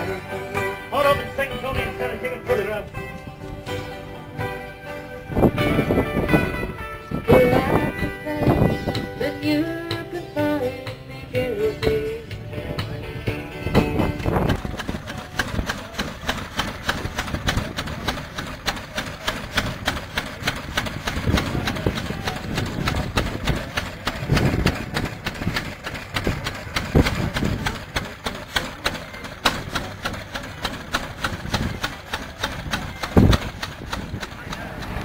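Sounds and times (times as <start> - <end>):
heavy low engine thud: 0.0 - 35.0
stationary engine clattering: 0.0 - 35.0.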